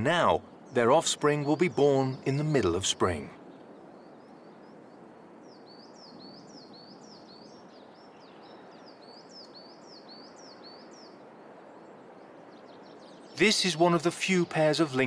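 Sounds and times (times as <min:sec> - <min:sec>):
faint outdoor hiss: 0:00.0 - 0:15.0
songbird singing: 0:00.0 - 0:15.0.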